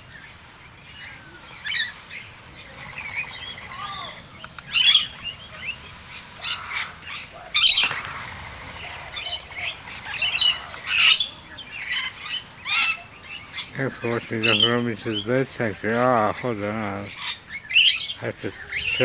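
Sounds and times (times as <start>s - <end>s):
parrots squawking: 0.0s - 19.0s.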